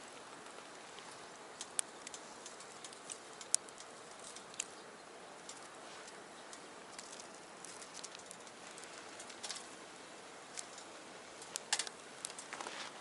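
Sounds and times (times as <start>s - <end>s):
wood fire crackling in stove: 0.0s - 13.0s.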